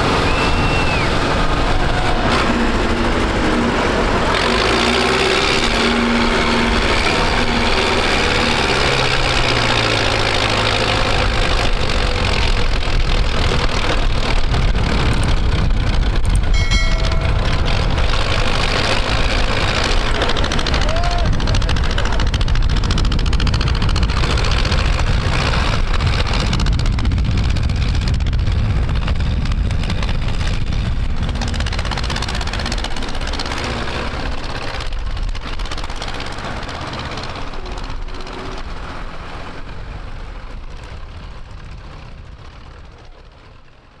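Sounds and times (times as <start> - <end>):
tractor engine rumbling: 0.0 - 44.0.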